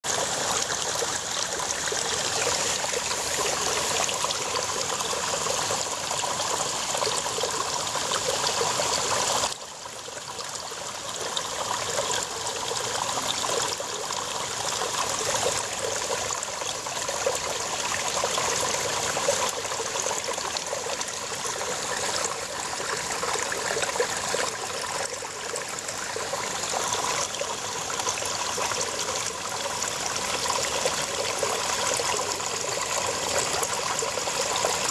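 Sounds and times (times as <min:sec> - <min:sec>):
brook running over rocks: 0:00.0 - 0:34.9.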